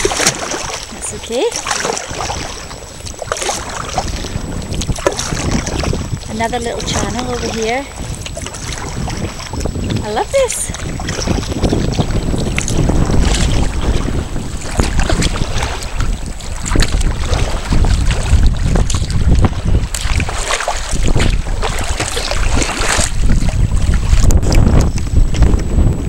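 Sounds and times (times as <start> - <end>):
water splashing around kayak hull: 0.0 - 26.0
wind rumble on microphone: 0.0 - 26.0.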